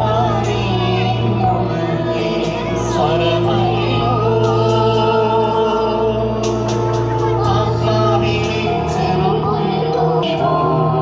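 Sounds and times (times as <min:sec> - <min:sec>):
choir singing held notes: 0:00.0 - 0:11.0
musical accompaniment: 0:00.0 - 0:11.0.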